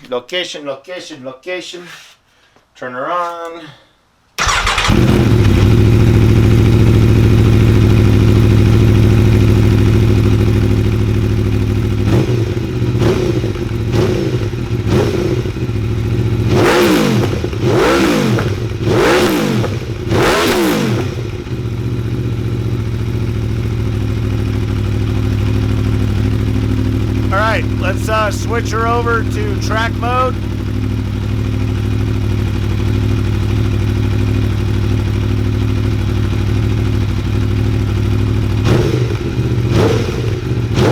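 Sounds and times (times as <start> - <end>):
motorcycle engine idling and revving: 4.4 - 40.9.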